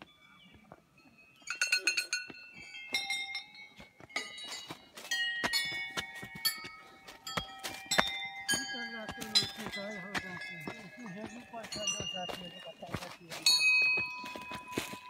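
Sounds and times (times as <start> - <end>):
small brass bells ringing: 0.0 - 15.0.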